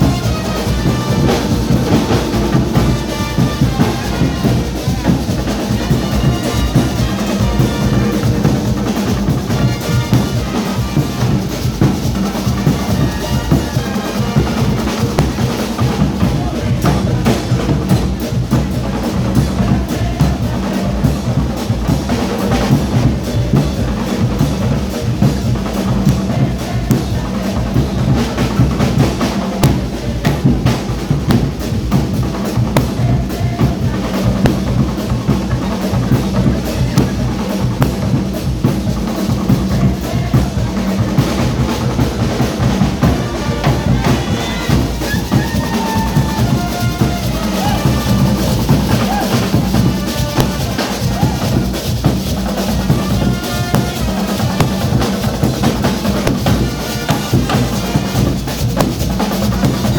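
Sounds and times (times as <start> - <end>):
bass drums beating: 0.0 - 59.9
street band drumming: 0.0 - 59.9.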